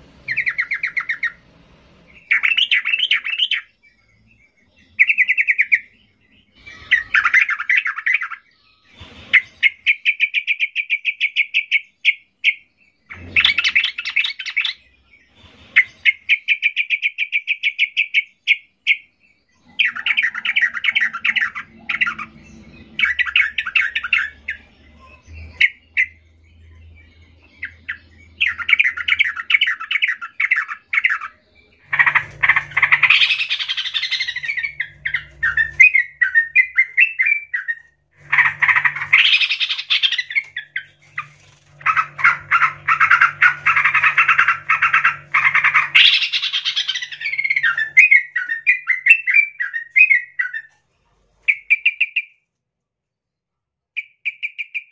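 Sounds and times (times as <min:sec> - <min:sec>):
birds chattering rapidly: 0:00.0 - 0:52.3.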